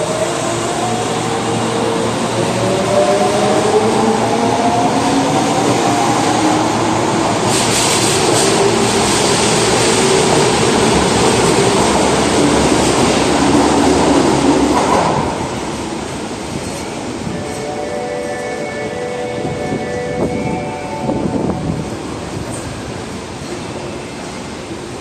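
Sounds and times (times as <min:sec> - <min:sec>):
subway train motor whine: 0:00.0 - 0:25.0
train wheel and running noise: 0:00.0 - 0:25.0.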